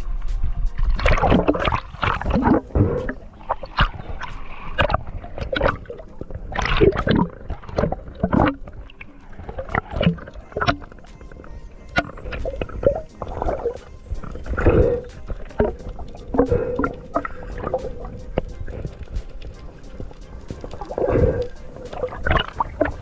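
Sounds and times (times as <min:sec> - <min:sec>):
water sloshing and gurgling: 0:00.1 - 0:23.0.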